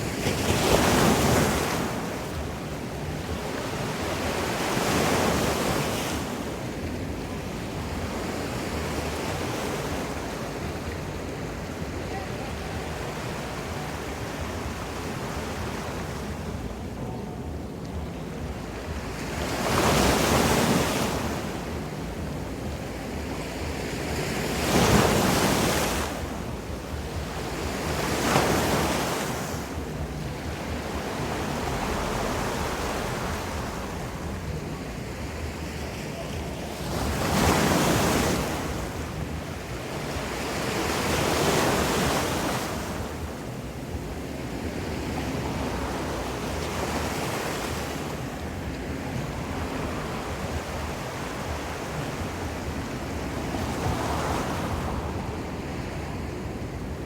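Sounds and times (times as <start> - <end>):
ocean waves washing ashore: 0.0 - 57.0
wind on microphone: 0.0 - 57.0.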